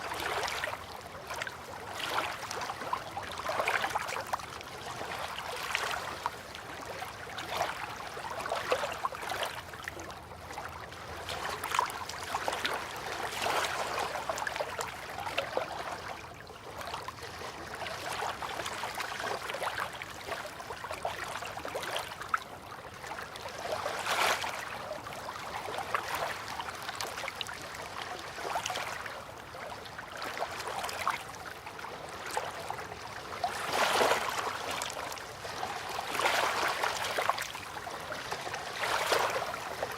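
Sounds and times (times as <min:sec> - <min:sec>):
river water lapping: 0:00.0 - 0:39.9.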